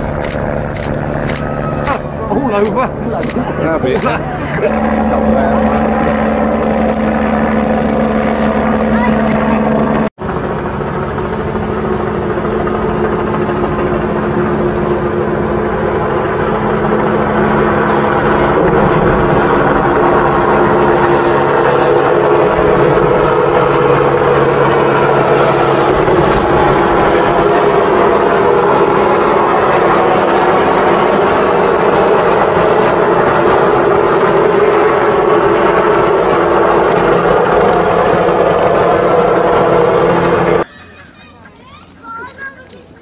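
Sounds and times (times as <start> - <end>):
helicopter engine and rotor drone: 0.0 - 43.0.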